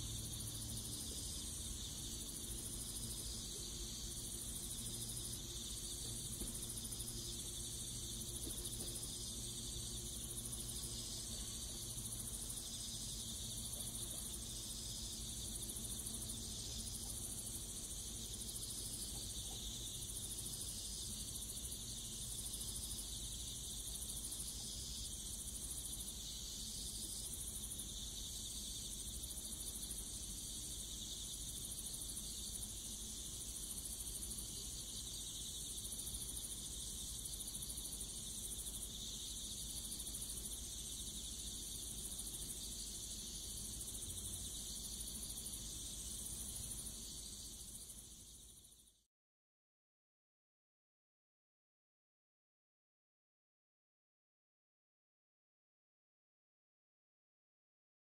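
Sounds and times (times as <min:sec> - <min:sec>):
insects chirping: 0:00.0 - 0:49.1.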